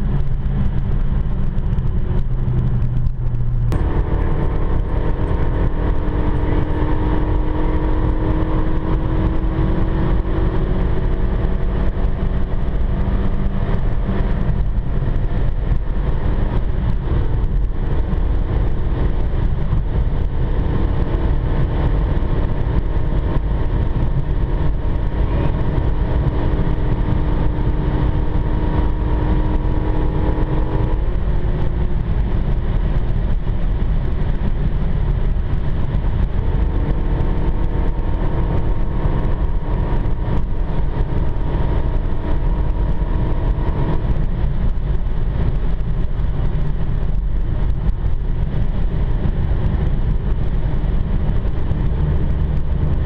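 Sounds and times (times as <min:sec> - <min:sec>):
car cabin road noise: 0:00.0 - 0:53.0
droning hum: 0:00.0 - 0:53.0.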